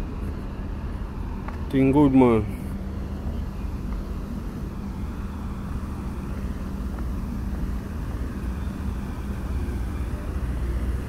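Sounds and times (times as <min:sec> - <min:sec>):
engine hum: 0:00.0 - 0:11.0
traffic rumble: 0:00.0 - 0:11.0.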